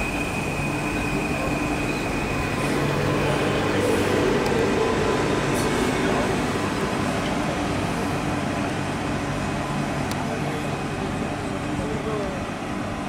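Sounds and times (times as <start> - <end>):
electric train hum: 0.0 - 13.0.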